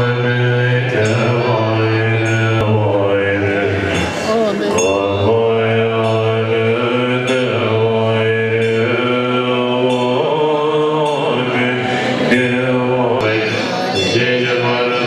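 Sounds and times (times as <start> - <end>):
low voices chanting: 0.0 - 15.0.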